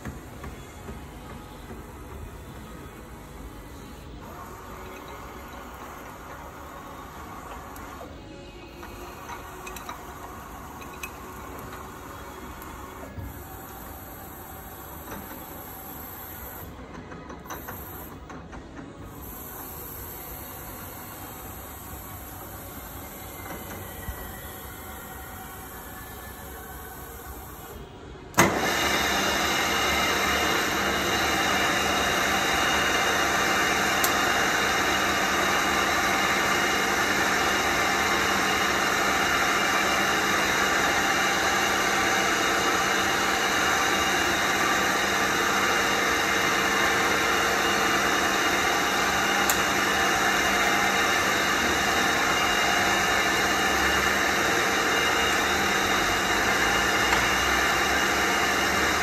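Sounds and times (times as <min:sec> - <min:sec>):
milling machine motor running: 0:03.8 - 0:18.3, 0:19.0 - 0:59.0.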